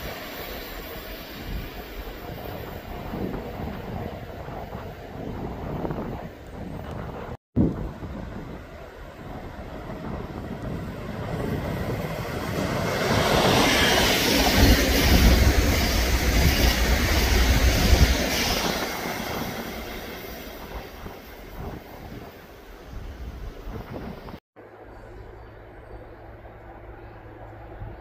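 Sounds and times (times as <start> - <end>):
rush of air from passing train: 0.0 - 28.0
train wheels rumbling on rails: 0.0 - 28.0.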